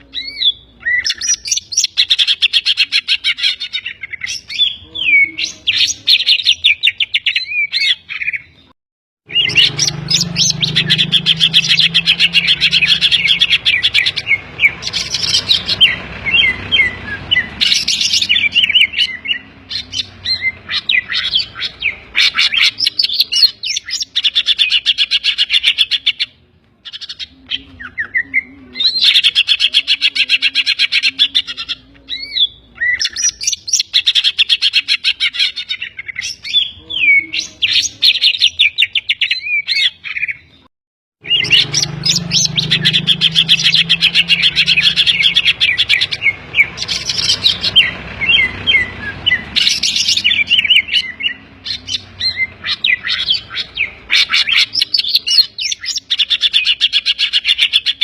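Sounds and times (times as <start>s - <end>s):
bird singing fast trills: 0.0s - 58.0s.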